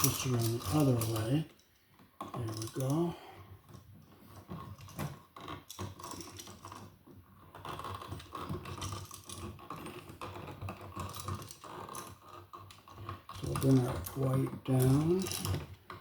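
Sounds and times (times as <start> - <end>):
wires clicking and scraping: 0.0 - 16.0.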